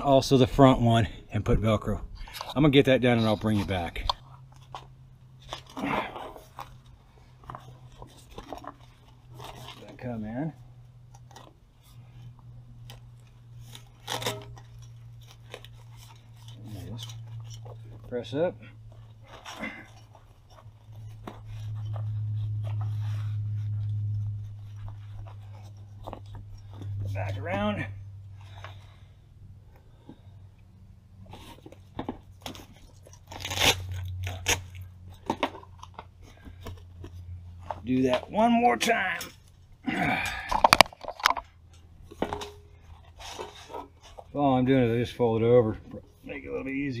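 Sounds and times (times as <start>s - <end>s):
faint low hum: 0.0s - 47.0s.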